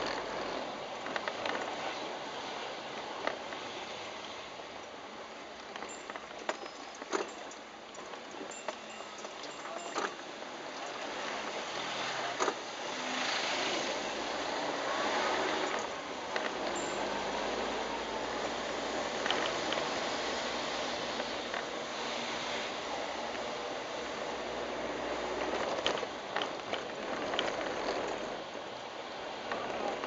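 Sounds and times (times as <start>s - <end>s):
vehicle road noise: 0.0s - 30.0s.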